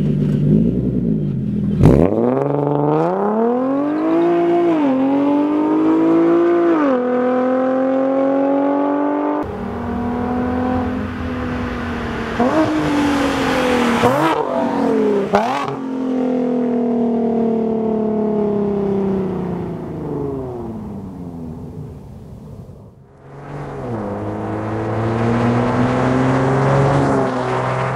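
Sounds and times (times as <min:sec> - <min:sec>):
sports car accelerating and passing: 0:01.8 - 0:27.9.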